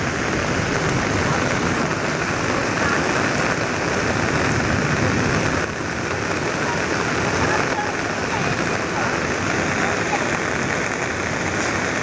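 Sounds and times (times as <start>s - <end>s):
floodwater rushing through street: 0.0s - 12.0s
heavy rain pouring: 0.0s - 12.0s.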